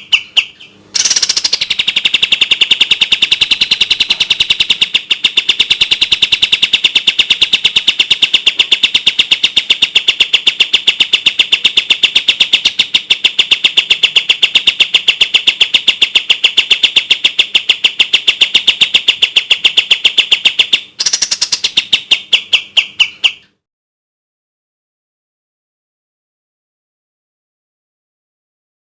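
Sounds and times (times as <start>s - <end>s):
bird singing rapid high notes: 0.0s - 23.6s.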